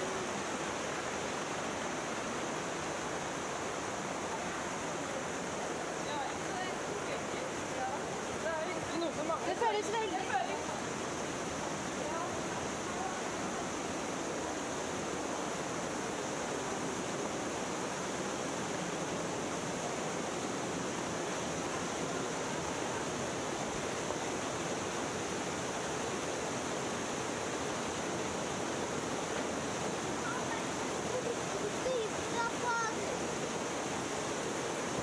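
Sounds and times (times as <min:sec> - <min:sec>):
stream rushing over rocks: 0:00.0 - 0:35.0.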